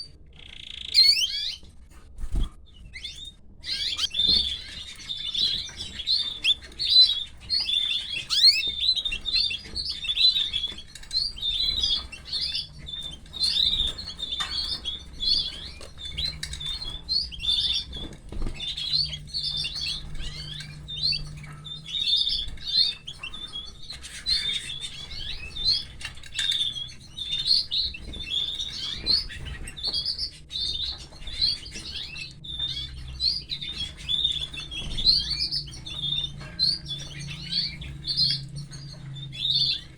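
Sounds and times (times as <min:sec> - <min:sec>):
canary chicks cheeping: 0:00.0 - 0:39.9.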